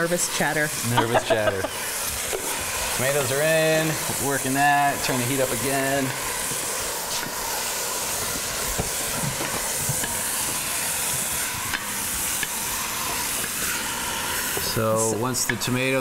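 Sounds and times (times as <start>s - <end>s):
vegetables sizzling in a pot: 0.0s - 16.0s.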